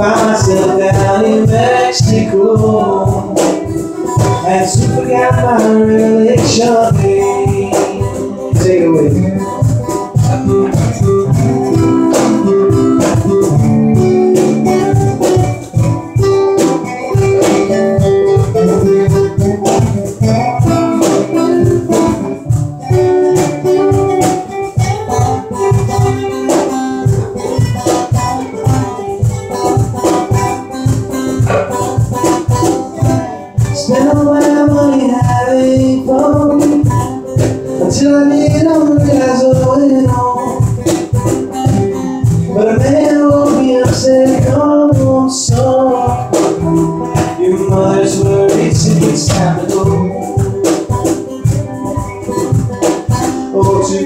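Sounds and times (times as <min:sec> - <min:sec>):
person singing: 0:00.0 - 0:22.5, 0:23.3 - 0:30.8, 0:32.8 - 0:51.6, 0:52.4 - 0:54.0
strummed acoustic guitar: 0:00.0 - 0:54.0.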